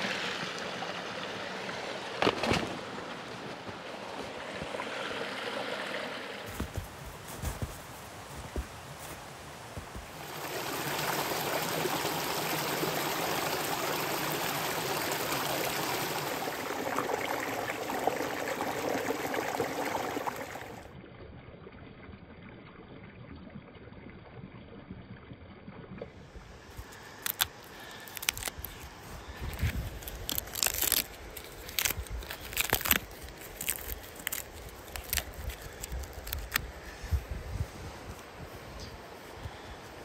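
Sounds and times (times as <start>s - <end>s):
water running in a stream: 0.0s - 40.0s.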